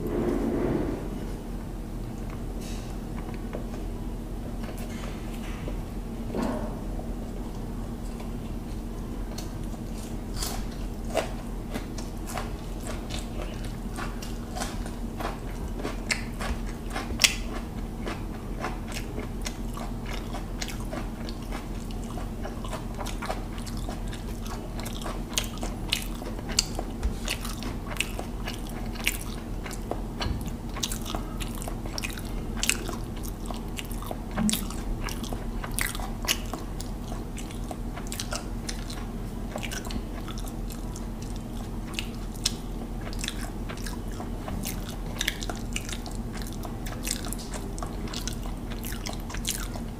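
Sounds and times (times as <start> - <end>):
steady low hum: 0.0 - 49.9
chewing food: 7.4 - 49.9.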